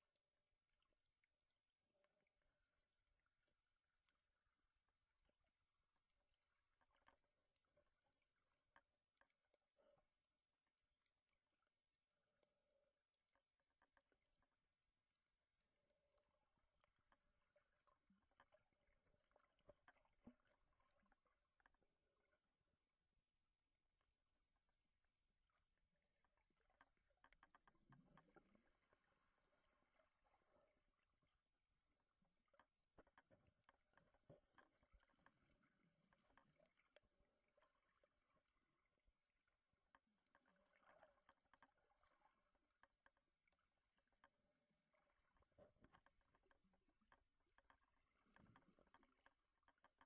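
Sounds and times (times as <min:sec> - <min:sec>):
faint underwater clicks and crackles: 0:00.0 - 0:50.0.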